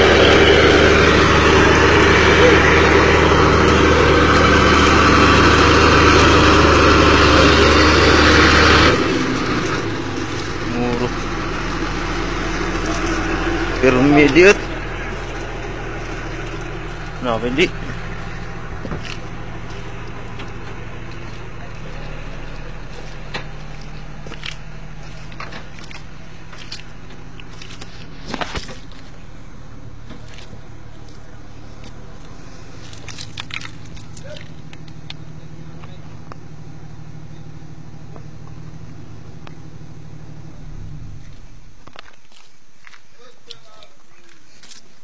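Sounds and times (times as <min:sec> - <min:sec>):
crawler track in thick mud: 0:00.0 - 0:45.0
heavy vehicle engine humming: 0:00.0 - 0:45.0.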